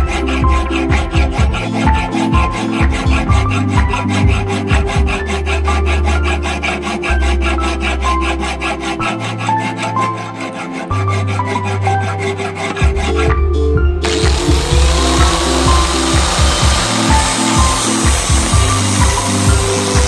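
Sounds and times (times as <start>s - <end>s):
file rasping on metal: 0.0s - 13.3s, 14.0s - 20.0s
background music: 0.0s - 20.0s.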